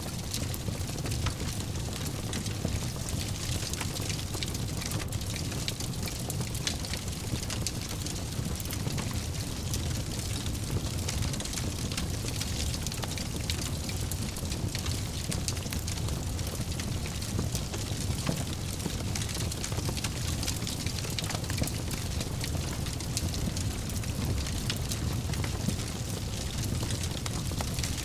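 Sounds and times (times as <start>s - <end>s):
low fire rumble: 0.0s - 28.0s
wood fire crackling: 0.0s - 28.0s.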